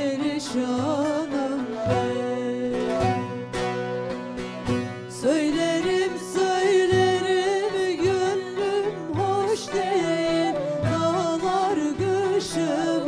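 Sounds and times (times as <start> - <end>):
ornamented melody line: 0.0 - 13.0
plucked string instruments: 0.0 - 13.0.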